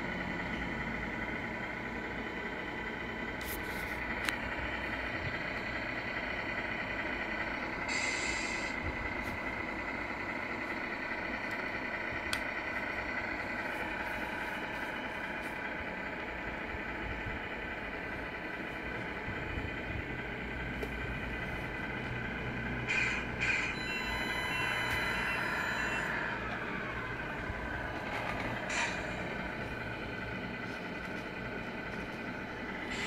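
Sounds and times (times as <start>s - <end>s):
simulated diesel engine idle: 0.0s - 33.0s.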